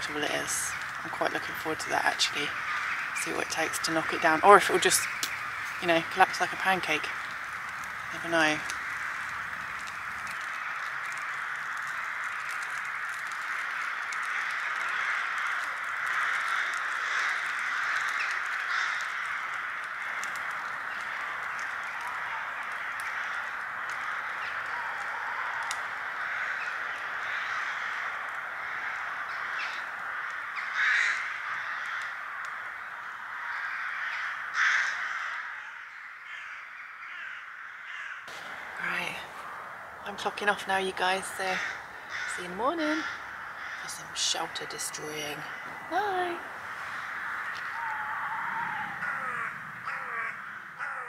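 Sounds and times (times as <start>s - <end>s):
crows cawing: 0.0s - 51.0s.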